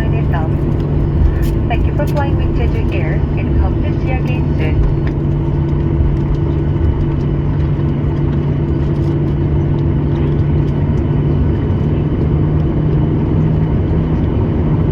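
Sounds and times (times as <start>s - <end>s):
droning hum: 0.0s - 14.9s
jet engine rumble: 0.0s - 14.9s.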